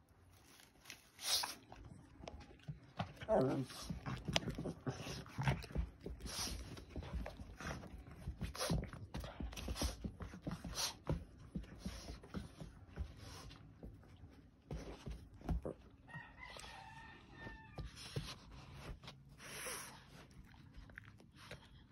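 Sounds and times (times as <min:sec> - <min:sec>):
puppy playing with toy on carpet: 0:00.1 - 0:21.9.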